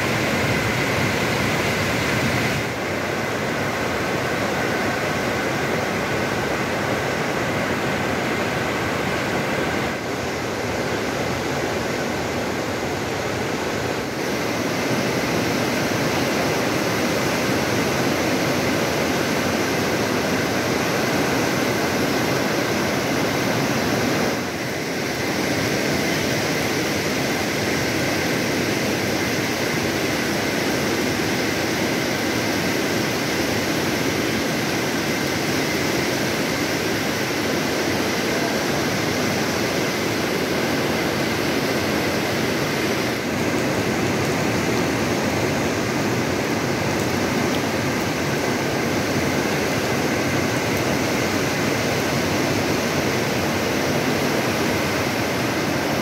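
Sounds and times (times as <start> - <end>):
flooded river roaring: 0.0 - 56.0.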